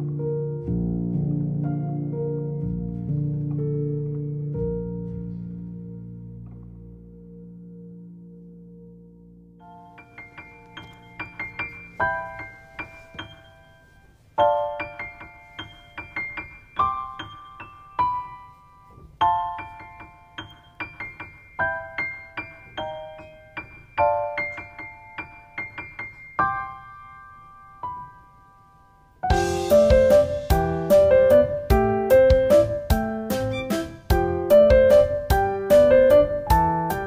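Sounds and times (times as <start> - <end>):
soft keyboard music: 0.0 - 37.0.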